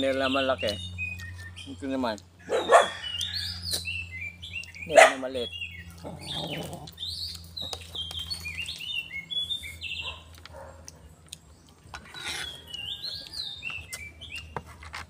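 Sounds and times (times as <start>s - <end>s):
birds chirping and singing: 0.0s - 15.0s.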